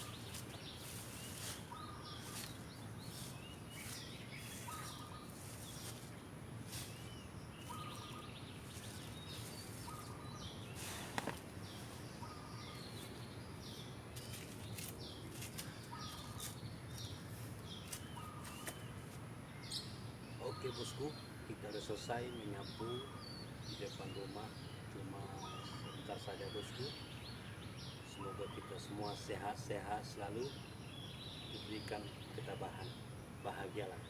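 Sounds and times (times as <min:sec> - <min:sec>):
bird calling: 0:00.0 - 0:34.0.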